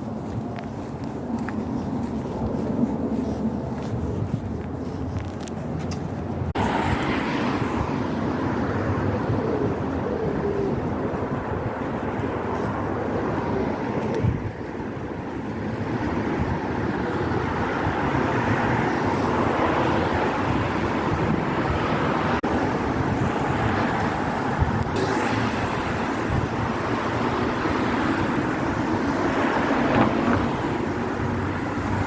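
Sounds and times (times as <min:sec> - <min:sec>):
cars passing on street: 0:00.0 - 0:32.0.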